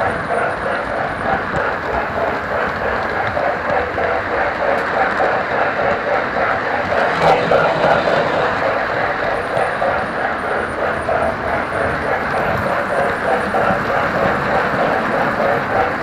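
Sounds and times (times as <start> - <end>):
model steam locomotive running: 0.0 - 16.0.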